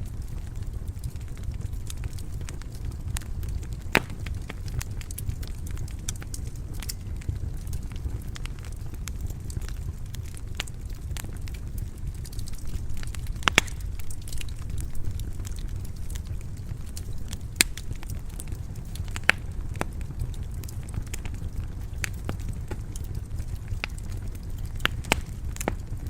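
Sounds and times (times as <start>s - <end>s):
fire pops: 0.0s - 26.0s
wood fire crackling: 0.0s - 26.0s.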